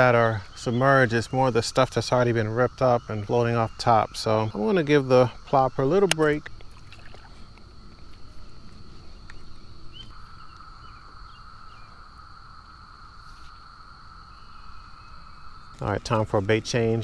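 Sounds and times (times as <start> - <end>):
insect chorus droning: 0.0 - 17.0.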